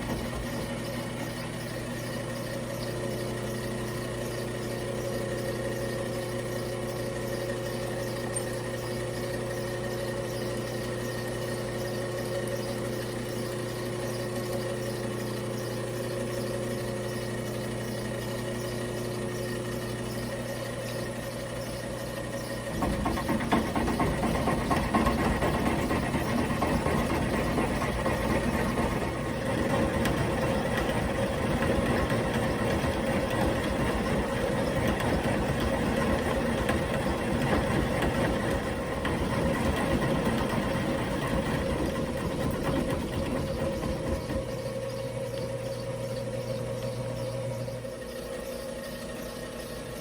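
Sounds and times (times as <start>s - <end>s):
end mill cutting metal: 0.0s - 50.0s
milling machine motor hum: 0.0s - 50.0s.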